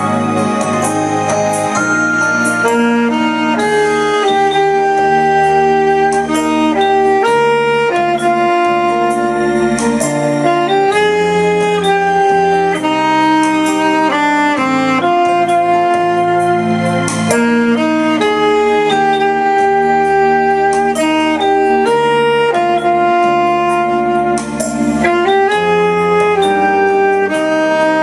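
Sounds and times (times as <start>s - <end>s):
backing accompaniment: 0.0s - 28.0s
saxophone melody: 0.0s - 28.0s.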